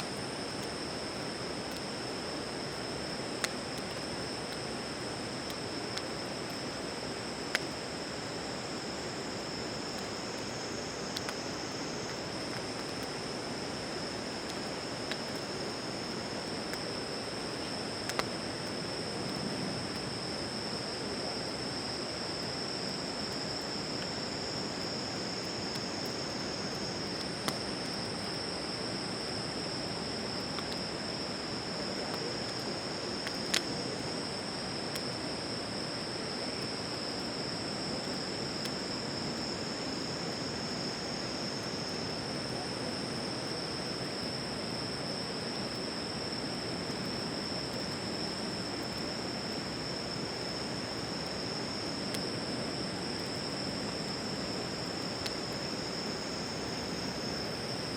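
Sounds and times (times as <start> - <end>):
night insects trilling: 0.0 - 57.9.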